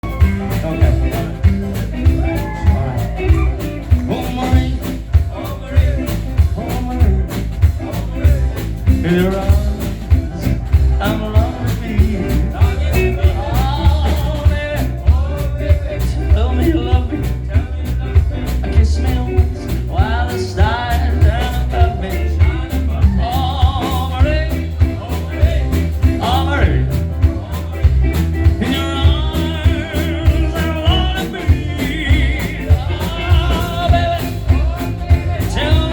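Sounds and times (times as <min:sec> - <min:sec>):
lead vocal singing: 0:00.0 - 0:35.9
swing band playing: 0:00.0 - 0:35.9.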